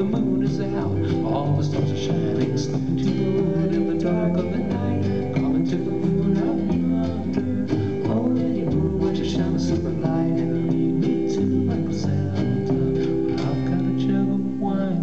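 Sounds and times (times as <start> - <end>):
live band playing: 0.0 - 13.8
person singing: 0.0 - 15.0.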